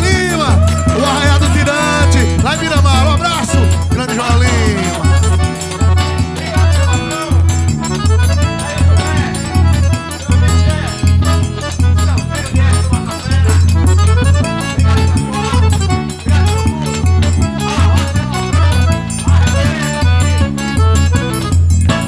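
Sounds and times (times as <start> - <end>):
bass line: 0.0 - 22.0
button accordion melody: 0.0 - 22.0
drum rhythm: 0.0 - 22.0.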